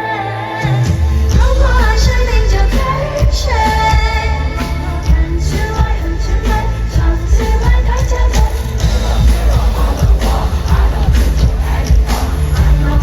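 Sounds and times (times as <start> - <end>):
loud band with pulsing bass: 0.0 - 13.0
woman singing lead vocal: 0.0 - 13.0.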